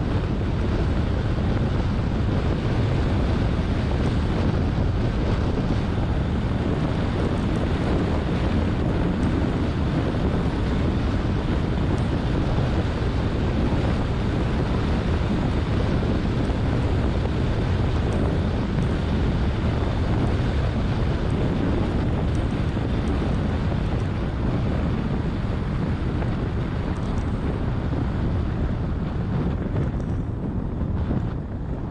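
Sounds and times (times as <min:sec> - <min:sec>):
tyre and road rumble: 0:00.0 - 0:31.9
wind rushing over microphone: 0:00.0 - 0:31.9.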